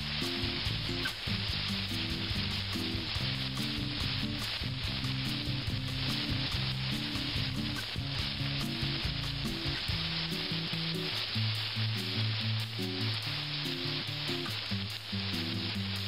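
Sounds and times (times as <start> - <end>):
background music: 0.0 - 16.0
meat sizzling in oil: 0.0 - 16.0.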